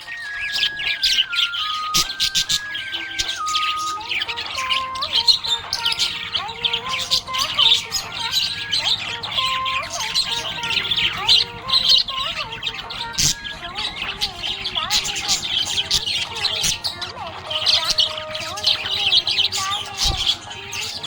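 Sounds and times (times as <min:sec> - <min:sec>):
budgerigars chirping: 0:00.0 - 0:21.0
whistled notes: 0:00.0 - 0:21.0.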